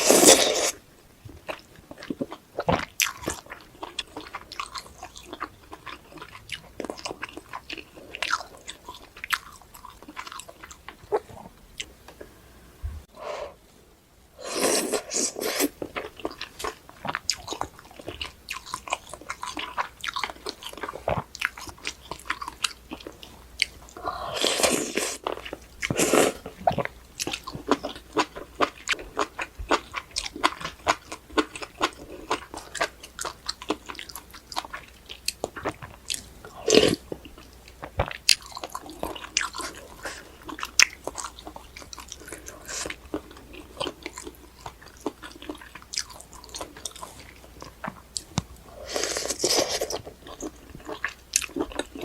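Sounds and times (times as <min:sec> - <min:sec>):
chewing with crisp crunches: 0:00.0 - 0:11.9, 0:14.8 - 0:52.0.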